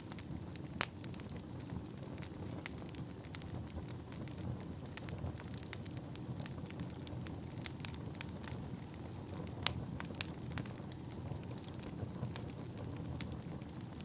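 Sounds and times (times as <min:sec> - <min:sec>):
fire crackles and pops: 0:00.0 - 0:14.0
wood fire rumbling: 0:00.0 - 0:14.0.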